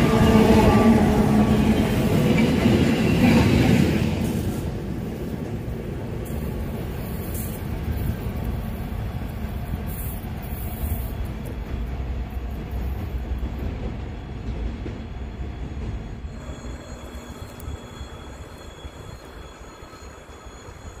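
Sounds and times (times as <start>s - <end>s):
train rumbling along rails: 0.0s - 21.0s.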